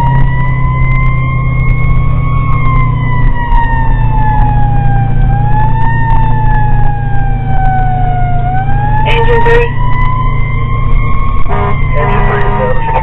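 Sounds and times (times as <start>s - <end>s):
fire engine siren wailing: 0.0s - 13.0s
truck low rumble: 0.0s - 13.0s.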